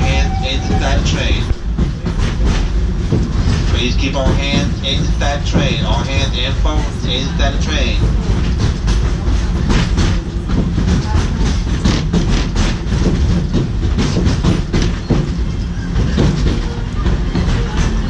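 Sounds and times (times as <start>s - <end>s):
low rumble of train cars: 0.0s - 18.0s
train wheels clicking over rail joints: 0.0s - 18.0s.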